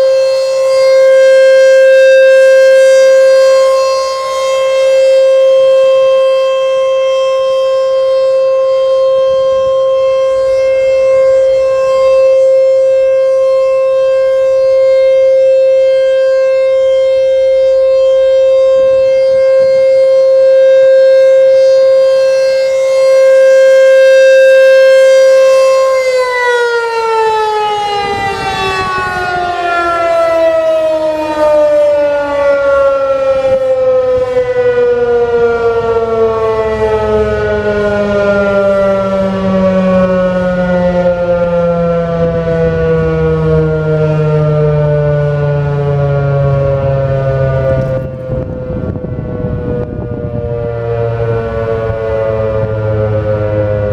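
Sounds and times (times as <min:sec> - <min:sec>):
warning siren steady tone: 0:00.0 - 0:53.9.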